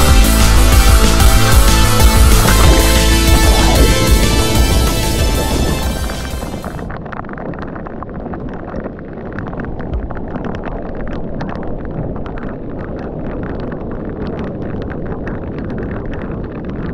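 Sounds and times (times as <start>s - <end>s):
heavy rain on the sea: 0.0s - 16.9s.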